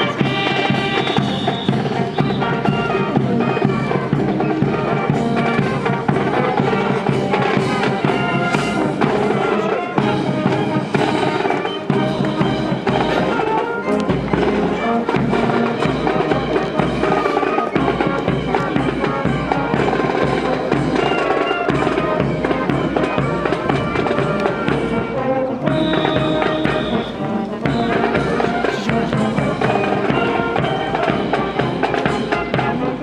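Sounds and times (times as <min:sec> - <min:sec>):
band music: 0:00.0 - 0:33.0
drums playing: 0:00.0 - 0:33.0.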